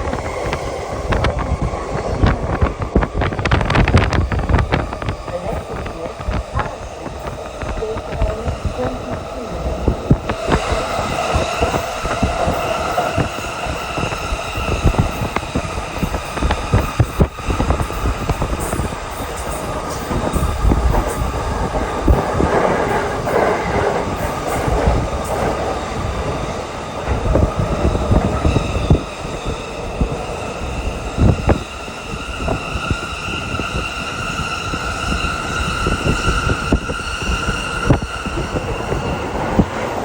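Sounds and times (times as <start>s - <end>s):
train rumble and whine: 0.0s - 40.0s.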